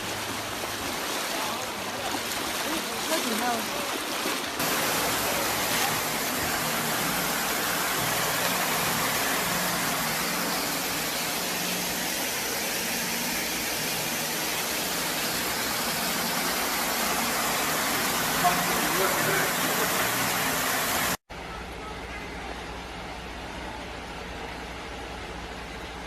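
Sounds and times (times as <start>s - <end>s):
floodwater rushing: 0.0s - 21.2s.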